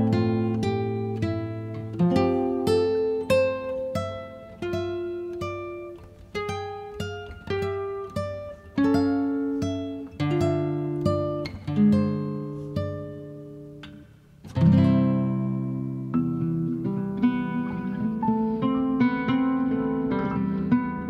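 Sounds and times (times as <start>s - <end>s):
acoustic guitar plucked notes: 0.0s - 21.0s.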